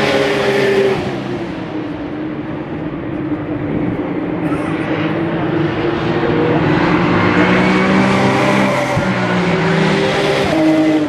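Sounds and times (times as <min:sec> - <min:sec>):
race car passing: 0:00.0 - 0:11.0.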